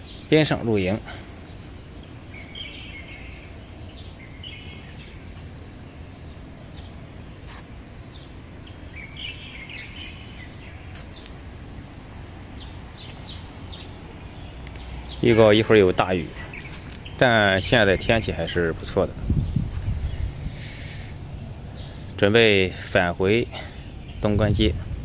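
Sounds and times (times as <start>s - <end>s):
low outdoor rumble: 0.0s - 25.0s
small birds chirping: 0.0s - 25.0s.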